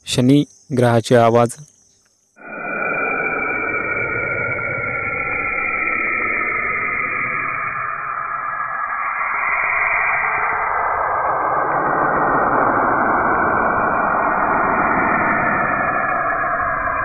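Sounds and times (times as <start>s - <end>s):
static-like rushing noise: 2.4s - 17.0s.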